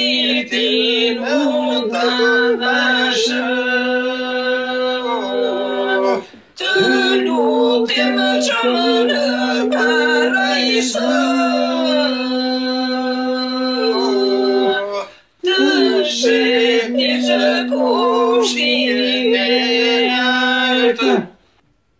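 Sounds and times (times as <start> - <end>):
person singing ornamented melody: 0.0 - 20.2.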